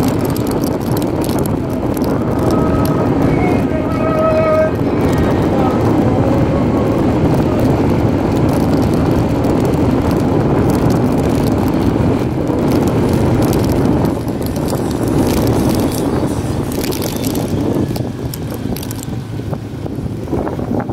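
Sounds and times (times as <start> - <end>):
vehicle rumbling on concrete road: 0.0 - 20.9
wind on microphone: 0.0 - 20.9.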